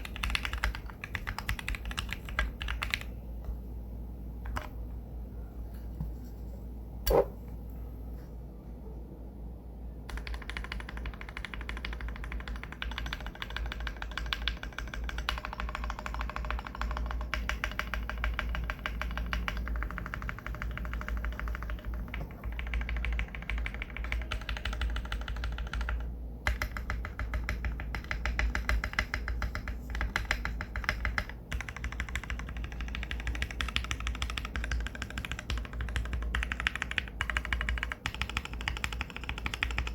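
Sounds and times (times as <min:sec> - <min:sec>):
mechanical keyboard typing: 0:00.0 - 0:03.2, 0:10.1 - 0:39.9.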